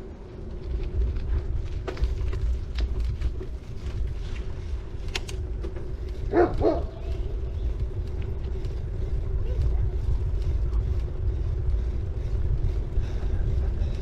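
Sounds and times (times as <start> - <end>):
bike tyres rolling: 0.0 - 14.0
bike clicks and rattles: 0.1 - 14.0.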